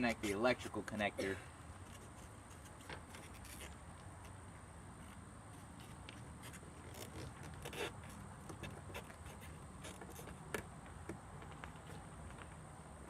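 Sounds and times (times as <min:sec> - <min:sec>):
faint background hum: 0:00.0 - 0:13.0.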